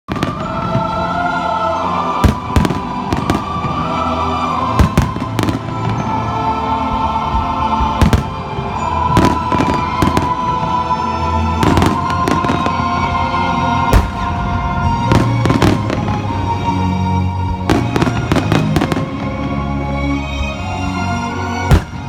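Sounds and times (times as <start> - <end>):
fireworks bursting: 0.1 - 6.5, 7.3 - 19.8, 21.6 - 22.0
music with held notes: 0.1 - 22.0.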